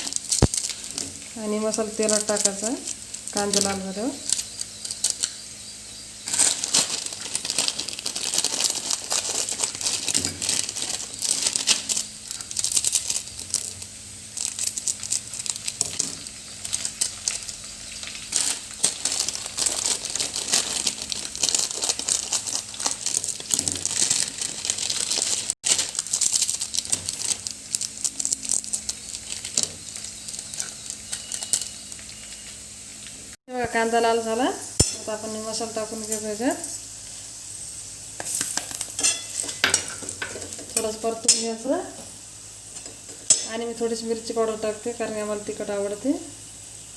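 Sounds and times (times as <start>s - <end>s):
onion sizzling in hot oil: 0.0s - 46.9s.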